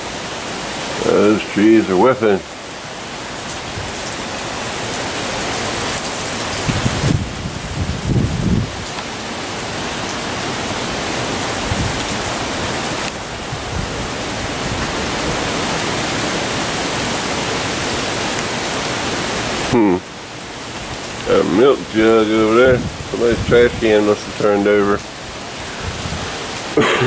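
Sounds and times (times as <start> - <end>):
low wind gusts: 0.0 - 27.0
rain and wind through trees: 0.0 - 27.0.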